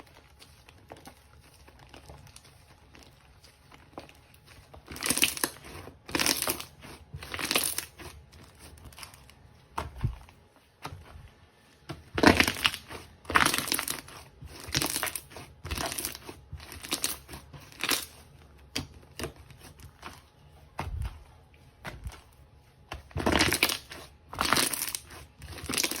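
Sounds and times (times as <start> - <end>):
slime crackling: 0.0 - 26.0.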